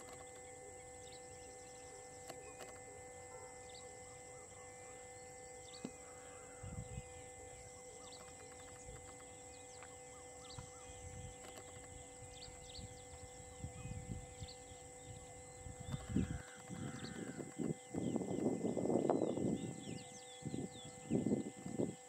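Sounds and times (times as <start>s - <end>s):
faint steady high hum: 0.0s - 22.0s
bird chirps: 3.4s - 21.8s.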